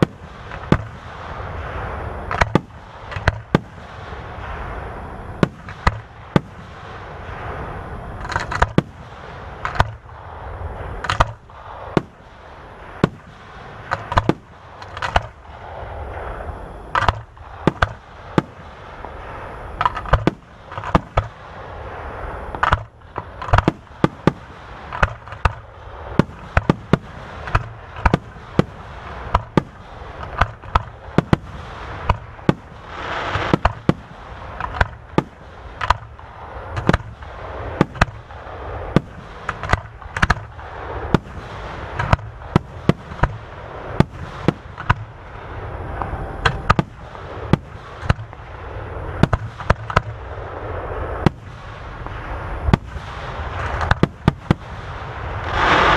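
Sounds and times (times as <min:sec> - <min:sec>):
fireworks bangs: 0:00.0 - 0:55.9
fireworks rumble and crackle: 0:00.0 - 0:55.9.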